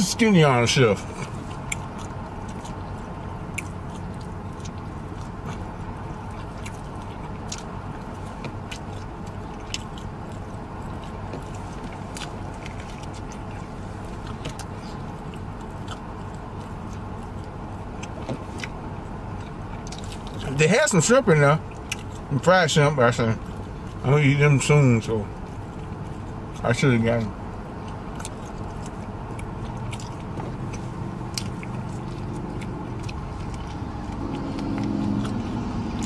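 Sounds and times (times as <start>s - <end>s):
low hum inside car: 0.0s - 36.0s
chewing and lip-smacking: 0.2s - 36.0s.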